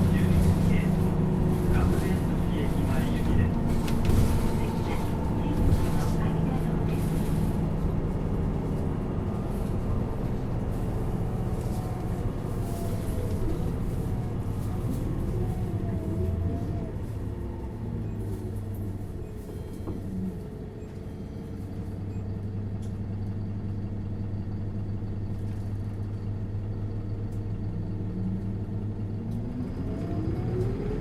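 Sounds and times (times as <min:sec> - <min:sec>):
bus diesel engine driving: 0:00.0 - 0:31.0.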